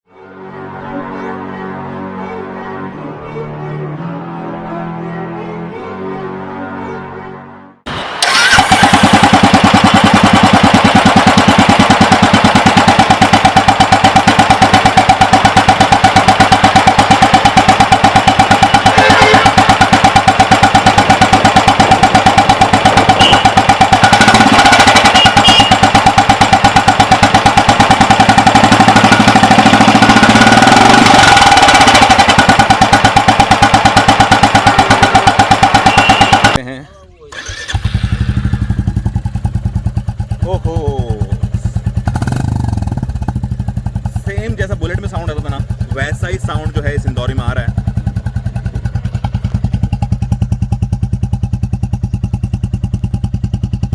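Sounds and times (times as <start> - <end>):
motorcycle engine starting and idling: 7.9 - 53.9.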